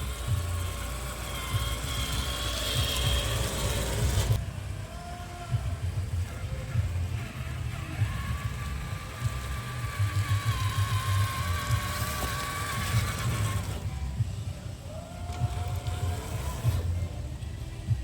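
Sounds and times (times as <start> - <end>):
electric motor and gearbox whine: 0.0 - 18.0.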